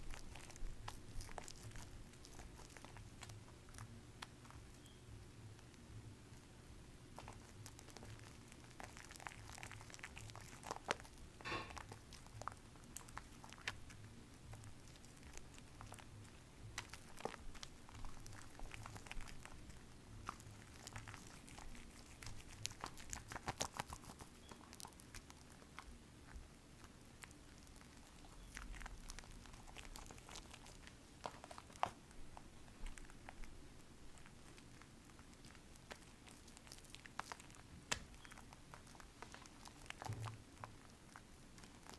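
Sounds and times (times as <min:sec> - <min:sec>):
soap lather crackling: 0:00.0 - 0:05.8, 0:07.1 - 0:41.9.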